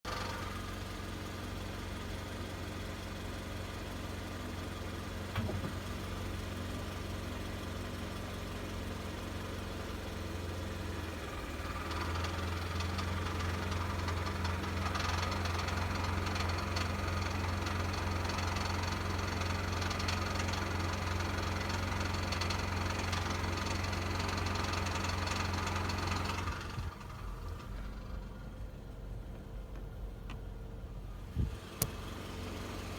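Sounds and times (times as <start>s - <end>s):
van engine idling: 0.0s - 32.9s.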